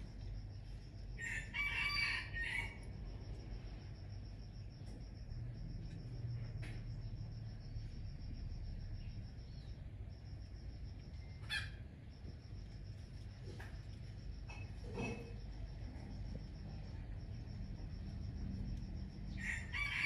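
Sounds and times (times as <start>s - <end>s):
insect chirping: 0.0s - 20.0s
low steady hum: 0.0s - 20.0s.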